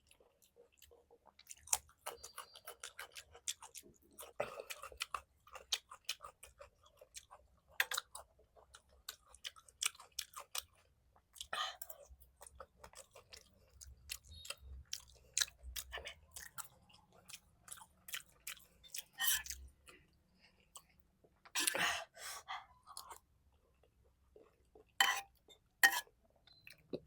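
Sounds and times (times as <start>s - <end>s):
wet chewing and smacking: 0.0s - 21.8s.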